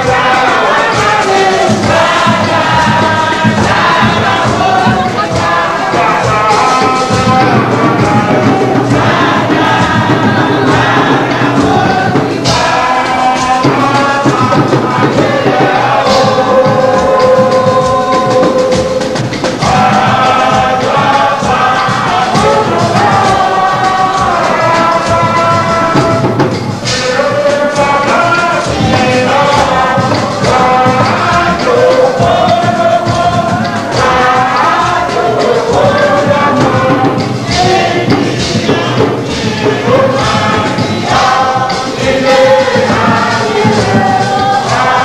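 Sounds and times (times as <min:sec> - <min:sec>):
crowd singing a praise song: 0:00.0 - 0:45.0
percussion beat: 0:00.0 - 0:45.0.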